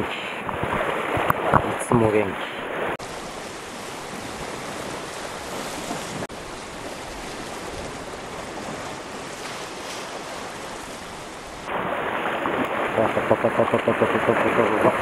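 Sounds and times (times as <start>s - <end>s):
waves washing on rocky shore: 0.0s - 15.0s.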